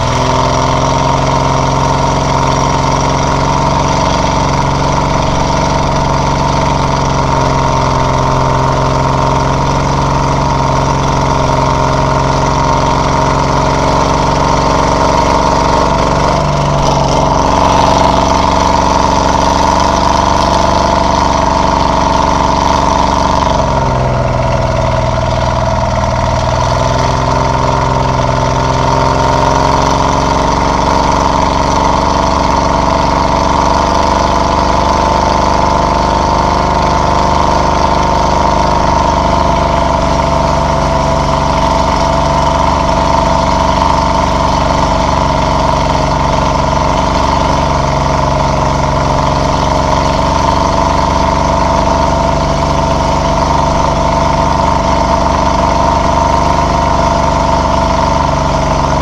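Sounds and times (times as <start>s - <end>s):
snow vehicle engine droning: 0.0s - 59.0s.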